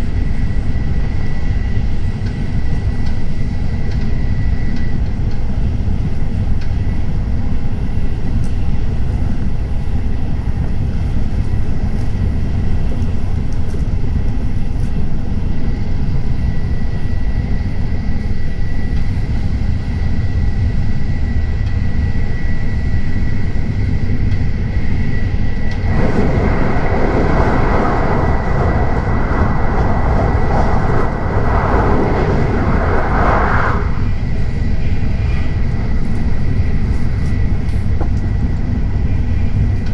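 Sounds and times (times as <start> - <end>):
train cabin rumble with whine: 0.0 - 39.9.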